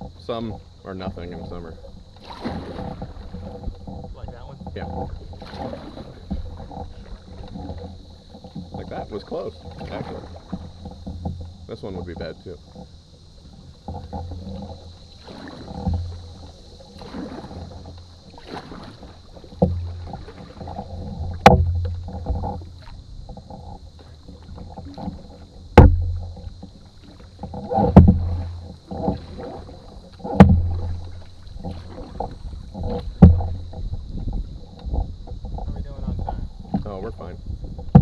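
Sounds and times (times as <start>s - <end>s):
paddles dipping through water: 0.0s - 38.0s
sharp knocks against canoe: 0.0s - 38.0s.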